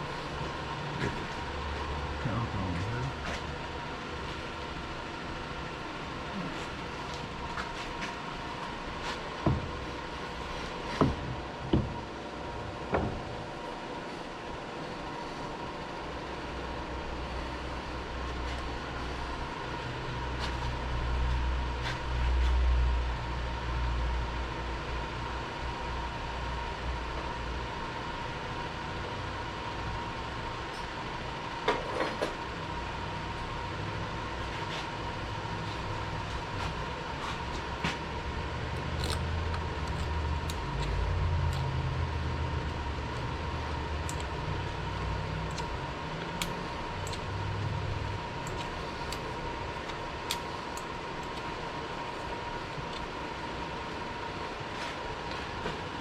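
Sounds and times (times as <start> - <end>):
machine shop hum: 0.0 - 56.0.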